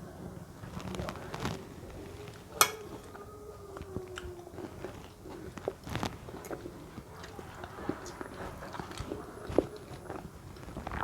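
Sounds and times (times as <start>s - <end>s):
person chewing food: 0.7s - 11.0s.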